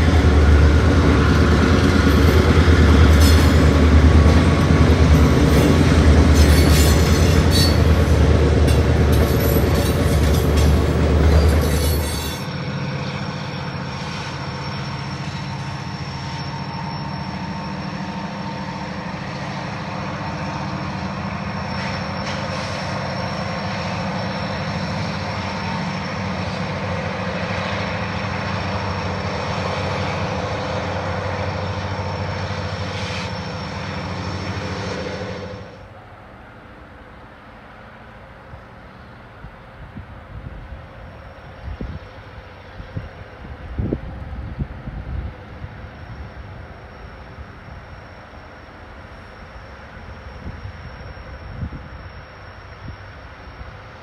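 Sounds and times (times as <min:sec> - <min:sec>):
diesel locomotive hum: 0:00.0 - 0:54.0
freight cars rolling on rails: 0:00.0 - 0:54.0.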